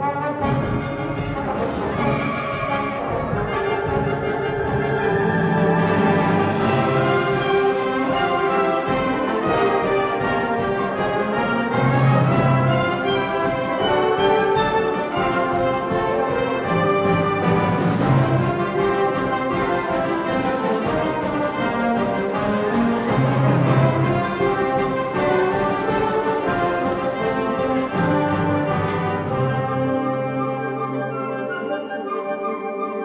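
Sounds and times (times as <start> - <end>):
wind band playing held chords: 0.0 - 33.0.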